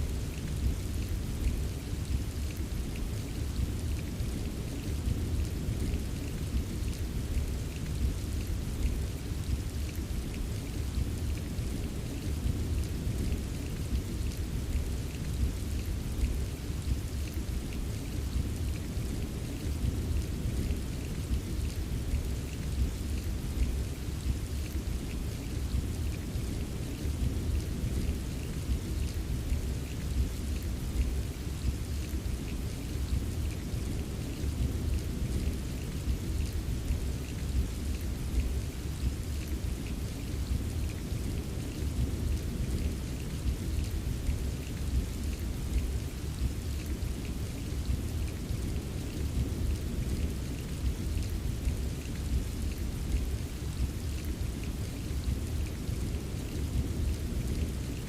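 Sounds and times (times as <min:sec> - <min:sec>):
patter of raindrops: 0:00.0 - 0:58.0
steady rain: 0:00.0 - 0:58.0.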